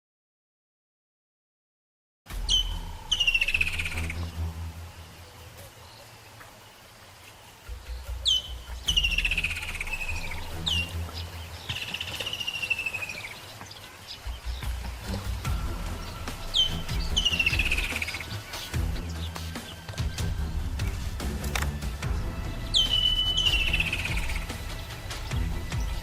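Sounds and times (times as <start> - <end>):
steady low rumble: 2.3 - 6.0, 7.6 - 13.2, 14.2 - 26.0
bird singing trilled phrases: 2.3 - 26.0.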